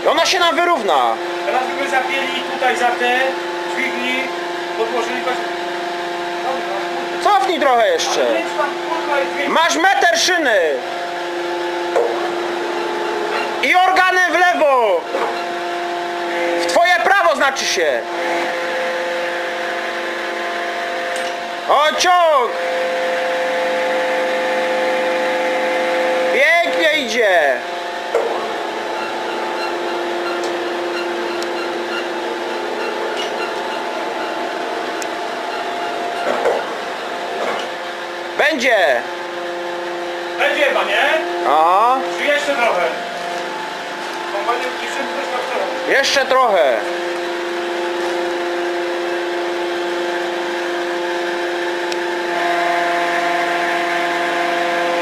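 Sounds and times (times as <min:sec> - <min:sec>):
hydraulic machine humming: 0:00.0 - 0:55.0.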